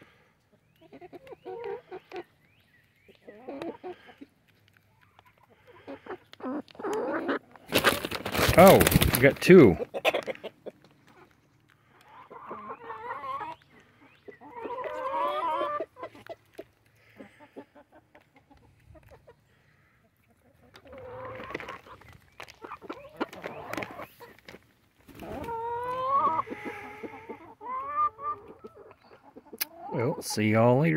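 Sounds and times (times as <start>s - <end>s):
hens clucking and calling: 0.0s - 30.9s.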